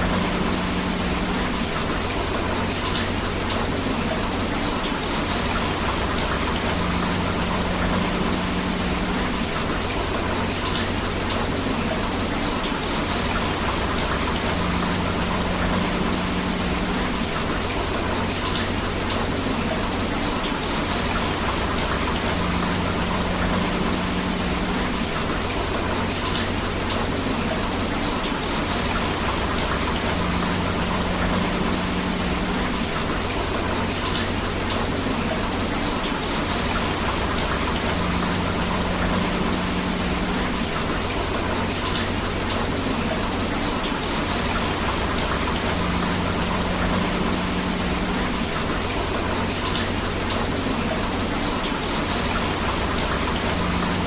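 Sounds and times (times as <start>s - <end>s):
rushing river water: 0.0s - 54.0s
steady rain: 0.0s - 54.0s.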